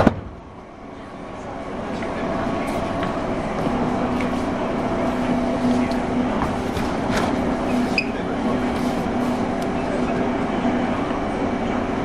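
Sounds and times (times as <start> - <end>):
electric train rumble: 0.0 - 12.0
steady hum tone: 0.0 - 12.0.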